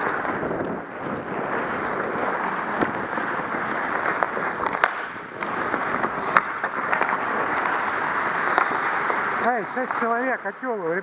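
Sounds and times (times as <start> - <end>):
hockey sticks and puck clacking: 0.0 - 11.0
skates rushing on ice: 0.0 - 11.0.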